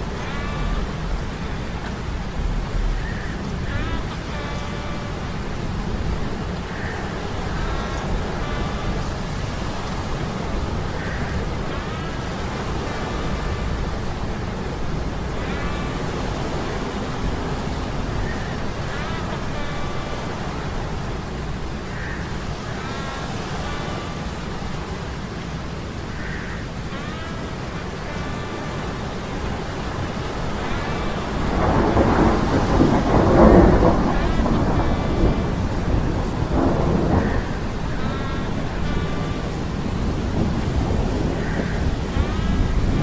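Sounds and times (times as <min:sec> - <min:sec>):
rushing sea storm: 0:00.0 - 0:43.0.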